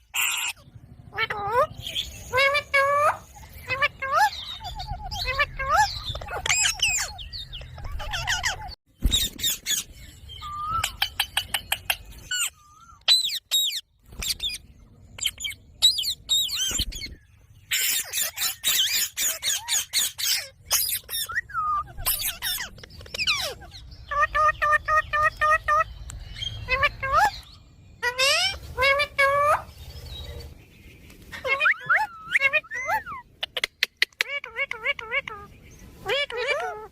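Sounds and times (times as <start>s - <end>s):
parakeet squawking and chirping: 0.0s - 30.5s, 31.3s - 36.9s.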